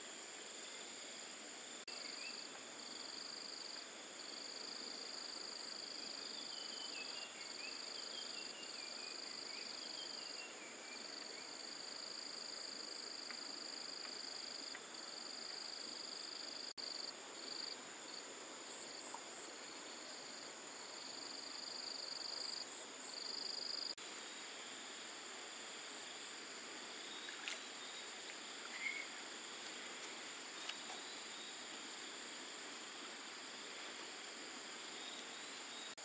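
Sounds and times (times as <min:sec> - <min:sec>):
insects trilling: 0:00.0 - 0:36.0
soft hiss: 0:00.0 - 0:36.0.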